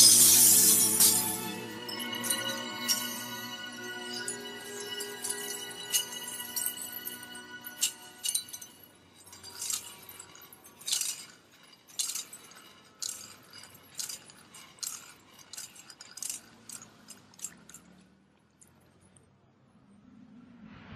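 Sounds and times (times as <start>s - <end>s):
glass shards clinking on pavement: 0.0s - 19.2s.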